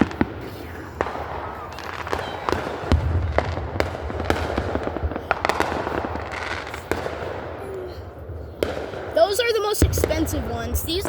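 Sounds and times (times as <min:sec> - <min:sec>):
firework deep boom: 0:00.0 - 0:09.2
fireworks crackling and banging: 0:00.0 - 0:11.0.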